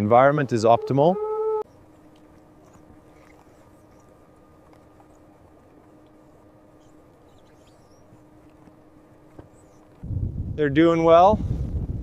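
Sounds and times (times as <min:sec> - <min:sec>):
faint low hum: 0:00.0 - 0:11.6.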